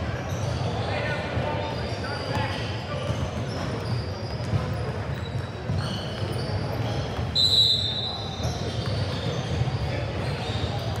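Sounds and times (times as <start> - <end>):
sneaker squeaks on court: 0.0 - 11.0
voices echoing in hall: 0.0 - 11.0.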